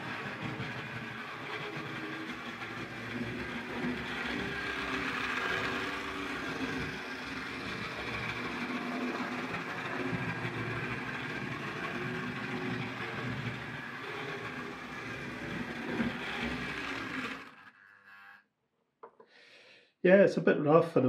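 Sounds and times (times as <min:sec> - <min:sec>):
wheels and gears rattling: 0:00.0 - 0:18.4
model train motor whirring: 0:00.0 - 0:18.5.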